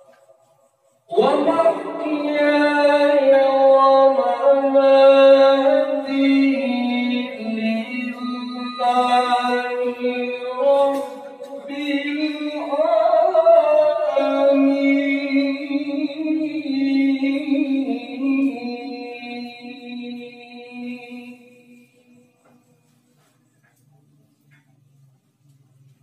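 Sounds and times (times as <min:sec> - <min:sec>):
man reciting melodically over microphone: 0:00.0 - 0:24.8.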